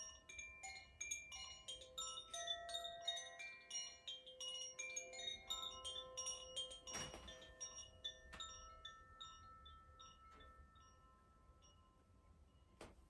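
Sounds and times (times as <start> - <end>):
wind chimes ringing: 0.0 - 12.8.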